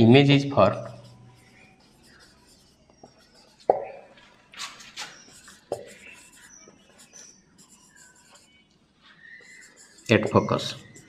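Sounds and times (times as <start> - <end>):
marker scratching on whiteboard: 0.8 - 8.7, 9.4 - 11.0.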